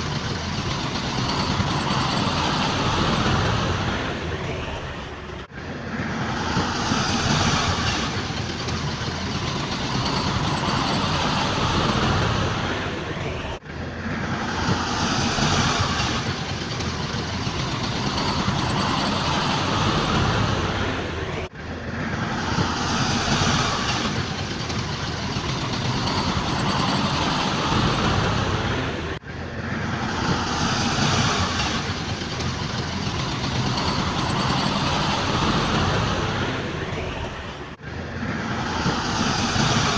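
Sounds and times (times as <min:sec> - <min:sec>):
heavy machinery diesel rumble: 0:00.0 - 0:39.9.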